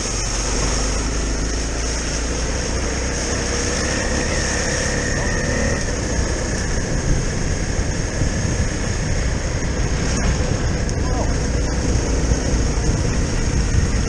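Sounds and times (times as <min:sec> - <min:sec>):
motorcycle engine running: 0:00.0 - 0:14.0
wind rushing: 0:00.0 - 0:14.0.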